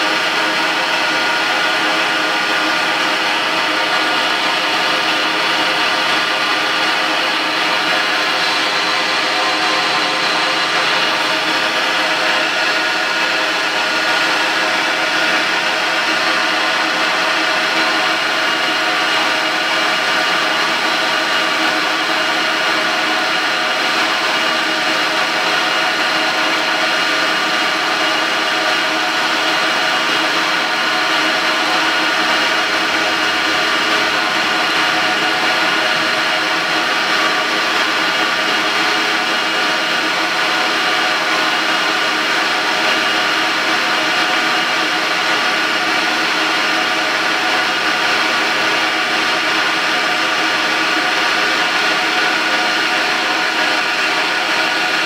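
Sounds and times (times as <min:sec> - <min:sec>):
surface grinder humming: 0:00.0 - 0:55.0.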